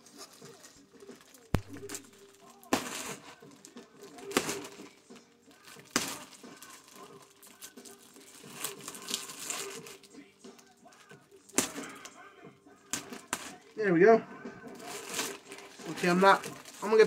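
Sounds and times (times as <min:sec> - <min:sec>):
hands rustling in package: 0:00.0 - 0:12.1, 0:14.6 - 0:17.0.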